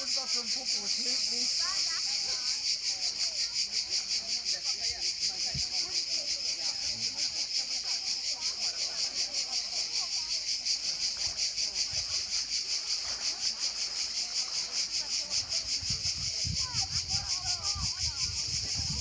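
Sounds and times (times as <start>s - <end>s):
cicadas singing: 0.0s - 19.0s
faint distant voices: 0.0s - 19.0s.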